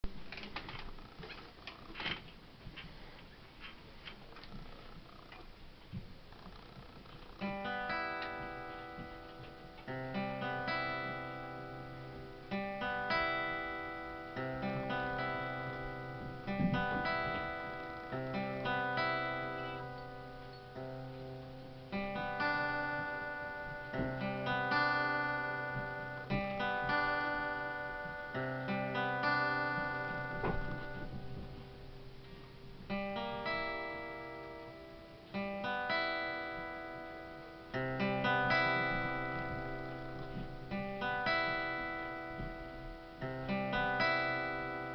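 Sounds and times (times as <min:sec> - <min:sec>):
acoustic guitar strumming: 0:05.6 - 0:44.9.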